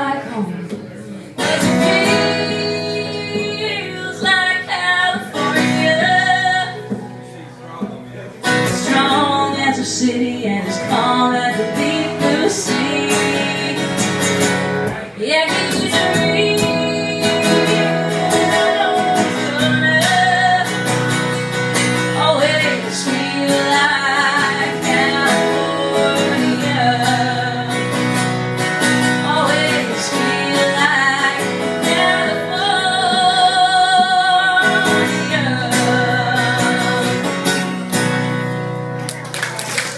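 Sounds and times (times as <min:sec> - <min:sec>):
woman singing: 0:00.0 - 0:00.8, 0:01.4 - 0:07.0, 0:08.6 - 0:28.3, 0:28.9 - 0:37.8
acoustic guitar strumming: 0:00.0 - 0:39.3.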